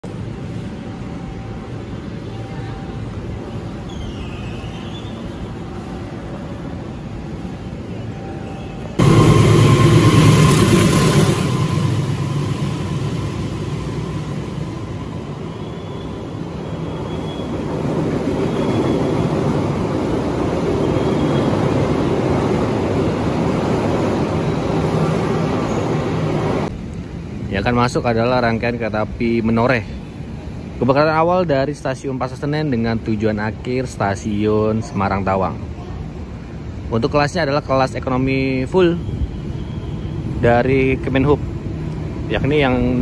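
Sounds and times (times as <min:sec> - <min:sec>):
train idling rumble and hum: 0:00.0 - 0:27.6, 0:29.8 - 0:30.9, 0:35.5 - 0:37.0, 0:37.9 - 0:43.0
railway station ambience: 0:00.0 - 0:43.0.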